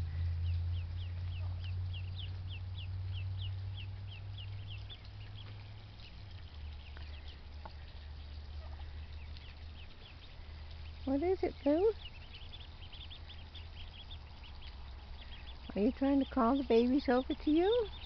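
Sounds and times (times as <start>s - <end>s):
ducklings peeping: 0.0s - 18.0s
low steady rumble: 0.0s - 18.0s.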